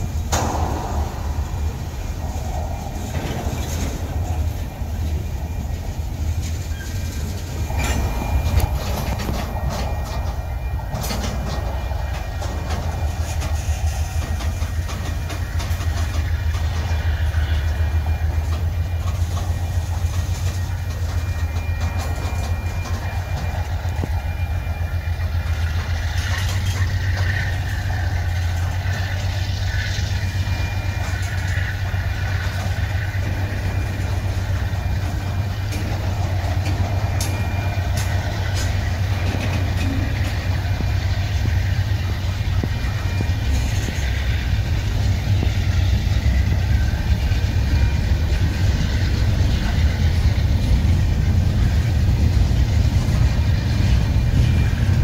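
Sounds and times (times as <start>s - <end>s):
faint high squeal: 0.0s - 55.0s
freight train wheels rumbling: 0.0s - 55.0s.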